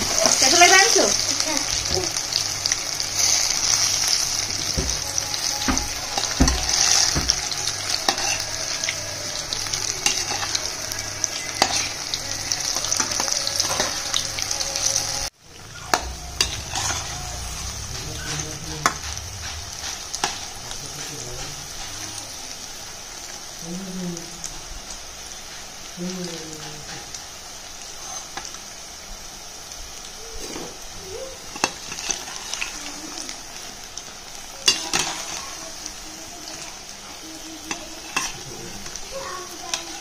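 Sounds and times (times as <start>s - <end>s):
deep-frying sizzle: 0.0s - 40.0s.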